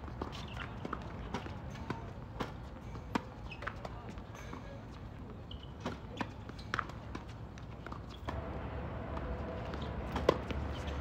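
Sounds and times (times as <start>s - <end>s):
tennis balls bouncing and hit: 0.0s - 11.0s.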